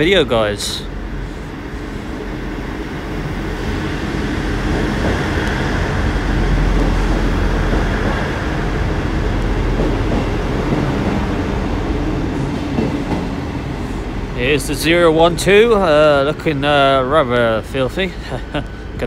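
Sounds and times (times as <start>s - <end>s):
diesel train engine and wheels: 0.0s - 19.0s.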